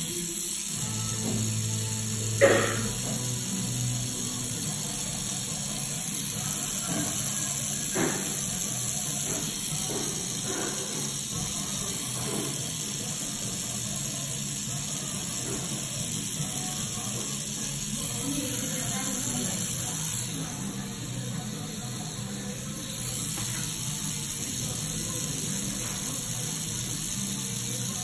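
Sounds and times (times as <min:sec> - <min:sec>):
tattoo machine buzzing: 0:00.0 - 0:28.0.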